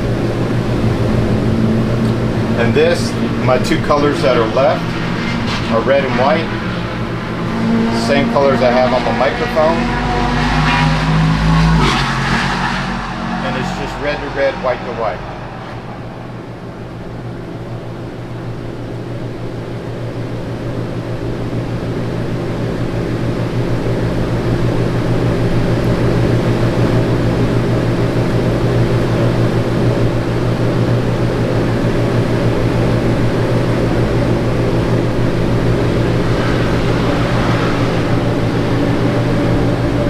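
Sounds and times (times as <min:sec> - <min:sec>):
electric fan motor hum: 0:00.0 - 0:40.0.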